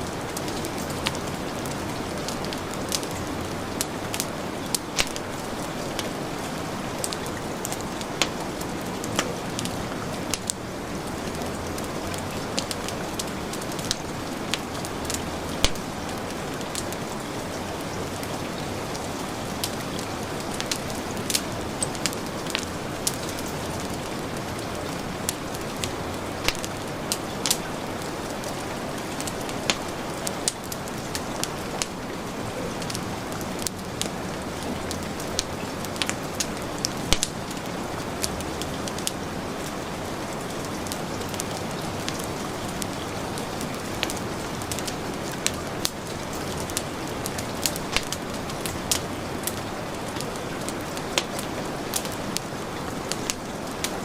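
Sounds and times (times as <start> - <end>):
heavy rain hissing: 0.0 - 54.0
wood fire crackling and popping: 0.1 - 54.0.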